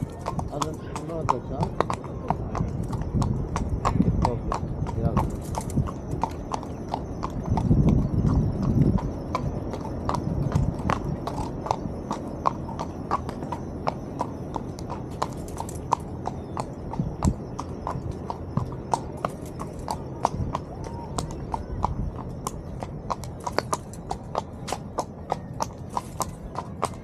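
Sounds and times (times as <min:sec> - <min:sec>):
horse hooves clip-clopping: 0:00.0 - 0:27.0.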